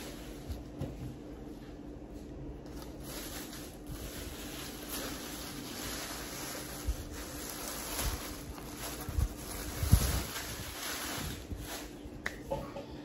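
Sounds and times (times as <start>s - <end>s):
plastic bag rustling: 0.0s - 12.6s
faint steady hum: 0.0s - 13.0s.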